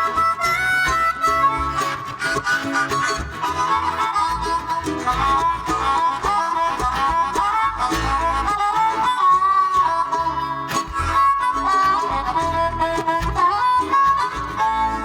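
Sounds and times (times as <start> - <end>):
acoustic string band playing: 0.0 - 15.0.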